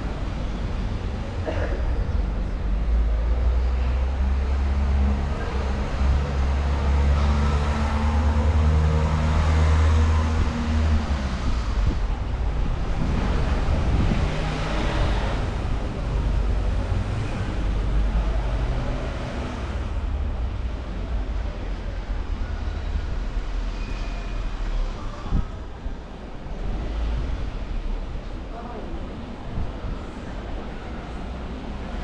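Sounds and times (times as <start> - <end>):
passing cars: 0.0 - 32.0.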